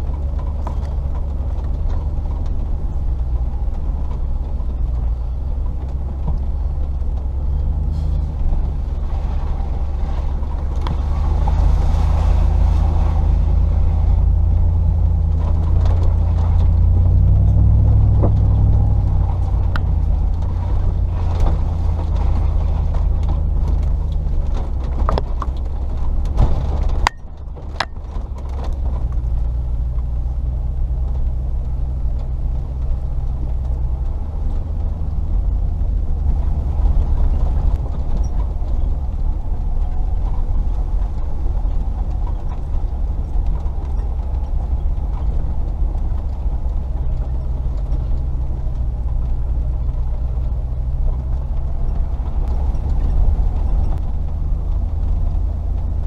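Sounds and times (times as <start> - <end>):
car engine running: 0.0 - 56.0
knocks and rattles: 0.0 - 56.0.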